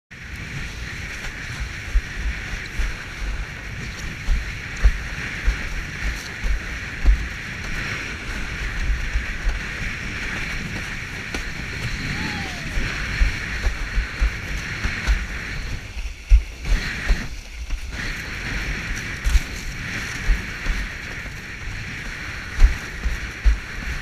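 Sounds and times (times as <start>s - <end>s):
wind buffeting microphone: 0.1s - 24.0s
rushing water: 0.2s - 24.0s.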